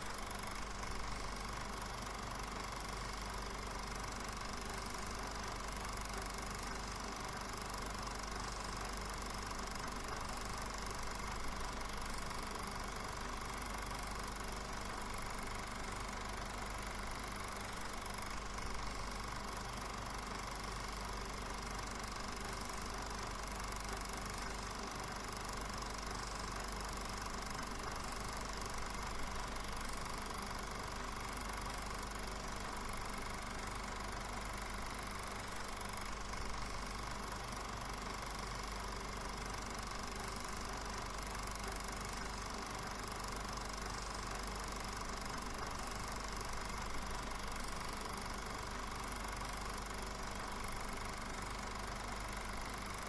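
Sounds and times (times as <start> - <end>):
film projector whirring: 0.0 - 53.0.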